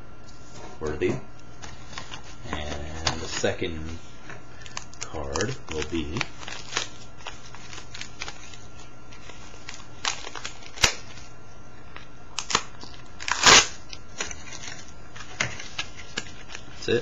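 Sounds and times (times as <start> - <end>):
plastic wrapping crinkling: 1.5 - 17.0.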